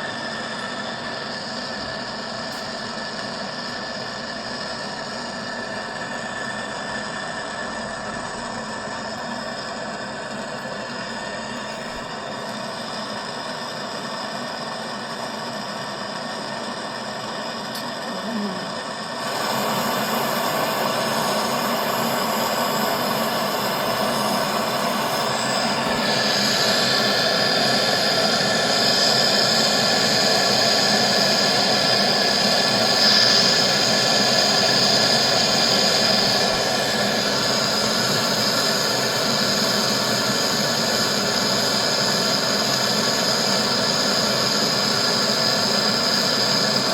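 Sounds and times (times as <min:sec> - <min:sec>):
high whine: 0:00.0 - 0:46.9
machine motor running: 0:00.0 - 0:46.9.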